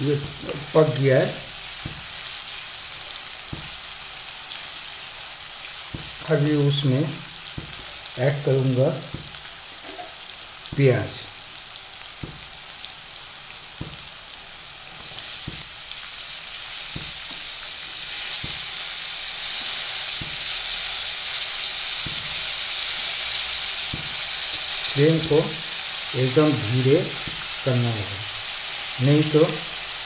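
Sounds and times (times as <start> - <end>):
food sizzling in oil: 0.0 - 30.0.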